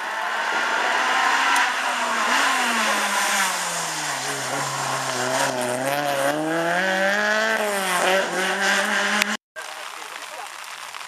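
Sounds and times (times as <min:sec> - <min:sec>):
rally car engine revving: 0:00.0 - 0:09.4.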